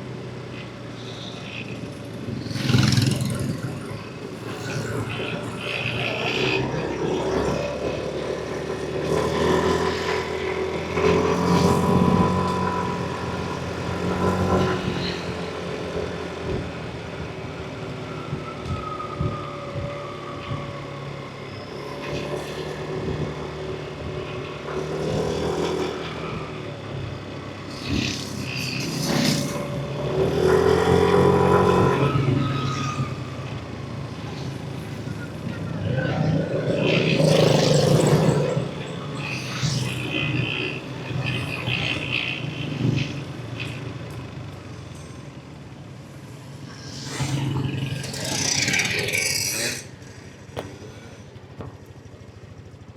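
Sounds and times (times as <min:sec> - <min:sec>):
scooter engine revving: 0:00.0 - 0:19.8, 0:20.5 - 0:52.9
road noise: 0:00.0 - 0:52.9.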